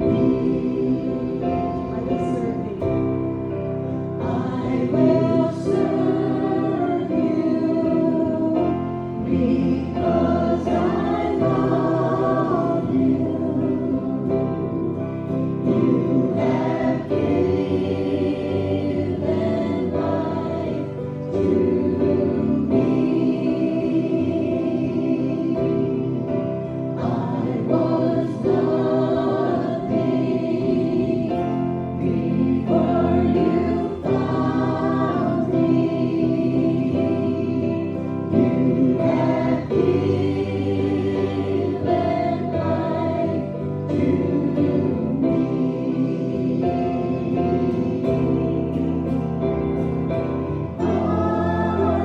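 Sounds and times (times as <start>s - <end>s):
group singing a hymn: 0.0s - 52.0s.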